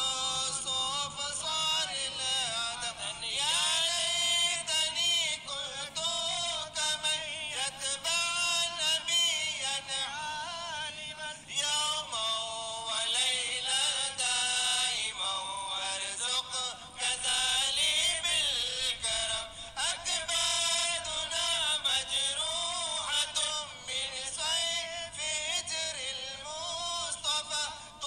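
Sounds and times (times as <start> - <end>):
solo voice singing devotional song: 0.0 - 28.0.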